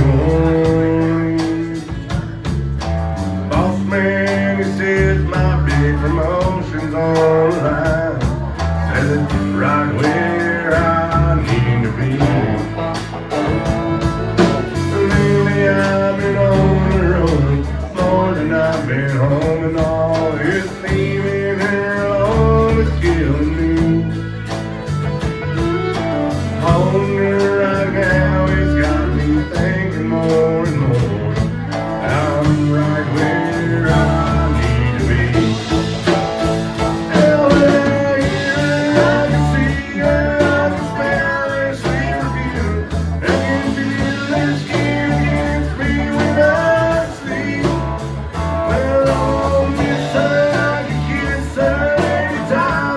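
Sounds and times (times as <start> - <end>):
live country band playing: 0.0 - 52.9
person singing: 0.0 - 52.9.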